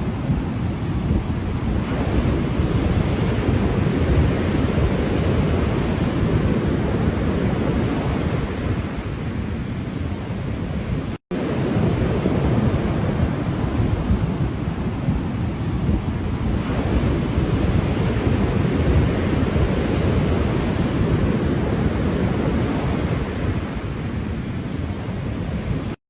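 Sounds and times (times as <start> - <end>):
ocean waves washing: 0.0 - 26.0.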